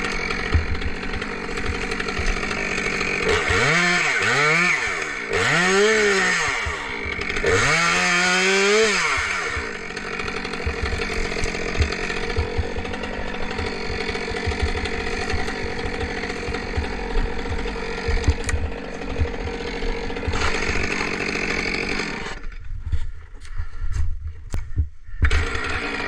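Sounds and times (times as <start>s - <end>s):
chainsaw cutting wood: 0.0s - 22.8s, 24.5s - 26.0s.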